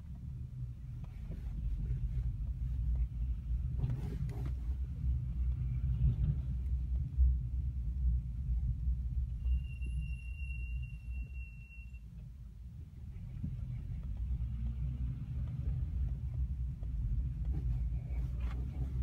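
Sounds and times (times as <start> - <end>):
road rumble inside car cabin: 0.0 - 19.0.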